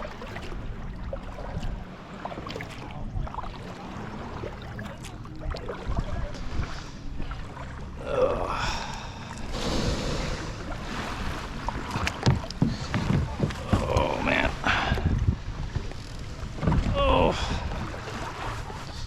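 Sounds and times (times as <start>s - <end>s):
paddle splashing in water: 0.0s - 19.0s
wind rumble on microphone: 0.0s - 19.0s.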